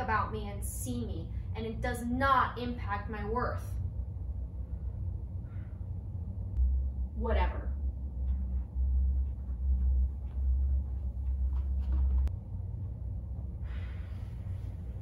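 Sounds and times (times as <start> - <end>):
deep background rumble: 0.0 - 15.0.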